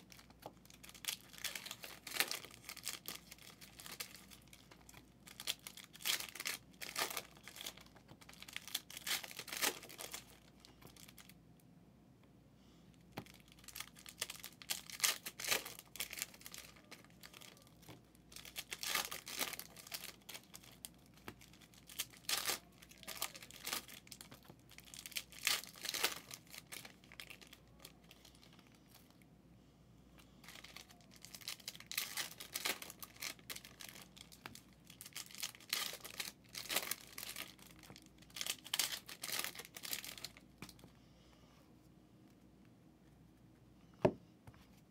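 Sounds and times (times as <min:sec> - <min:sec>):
plastic wrapping tearing and crinkling: 0:00.0 - 0:11.4, 0:13.2 - 0:29.0, 0:30.4 - 0:40.8.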